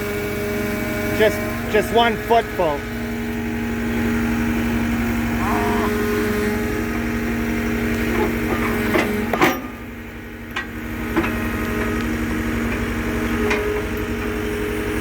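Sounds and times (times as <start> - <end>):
auger engine running: 0.0 - 15.0.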